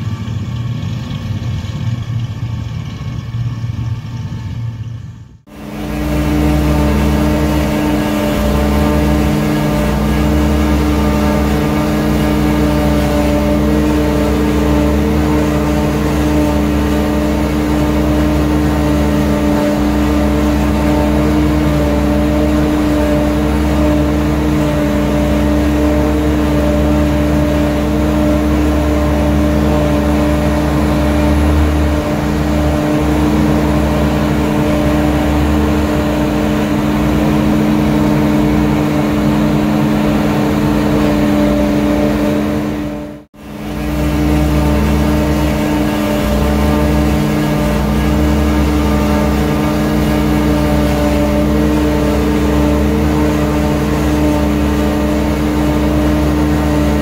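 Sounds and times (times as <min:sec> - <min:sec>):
heavy machinery engine drone: 0:00.0 - 0:57.0.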